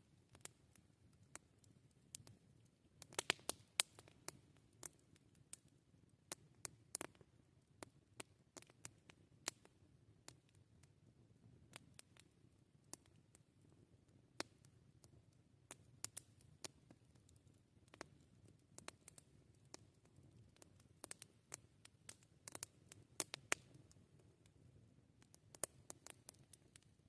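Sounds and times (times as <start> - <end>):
campfire crackling: 0.0 - 27.0
faint low background: 0.0 - 27.0.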